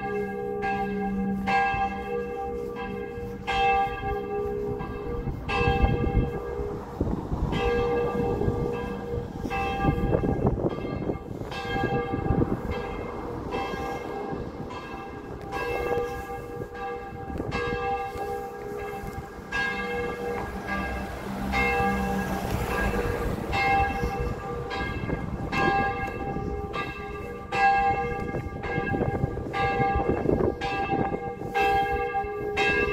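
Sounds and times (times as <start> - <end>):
church bell tolling: 0.0 - 32.9.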